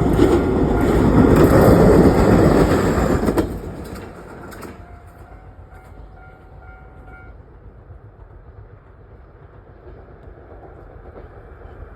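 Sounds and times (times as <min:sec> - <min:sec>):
train rumbling: 0:00.0 - 0:11.9.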